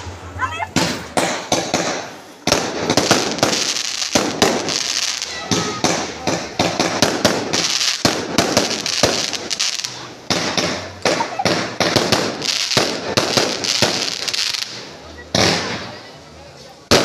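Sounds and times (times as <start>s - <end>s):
fireworks bangs: 0.0s - 16.1s
fireworks crackling hiss: 0.0s - 17.0s.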